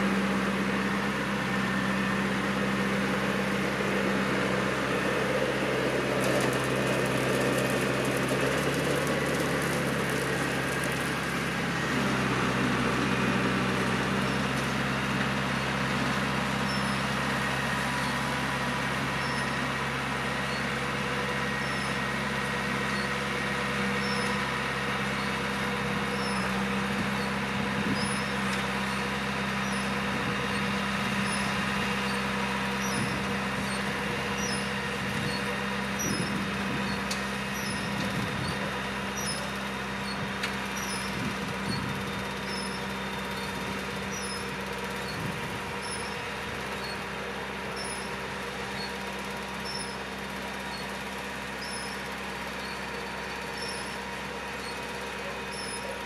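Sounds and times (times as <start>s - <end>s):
tractor diesel engine droning: 0.0s - 56.0s.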